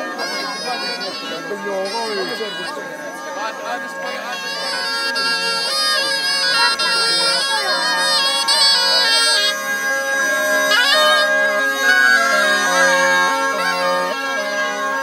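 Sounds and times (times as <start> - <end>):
bagpipe with drones: 0.0 - 15.0
shawm melody: 0.0 - 15.0.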